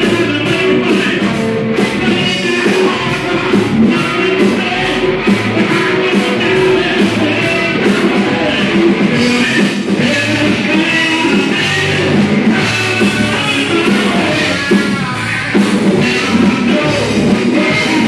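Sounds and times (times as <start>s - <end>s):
distorted electric guitar: 0.0s - 18.0s
drum kit: 0.0s - 18.0s.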